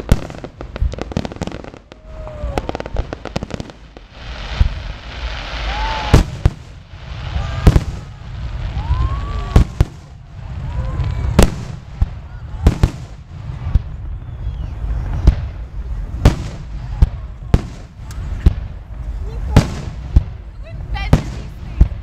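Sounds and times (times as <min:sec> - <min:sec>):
firework shells booming: 0:00.0 - 0:18.9
fast firework crackling: 0:00.0 - 0:22.0.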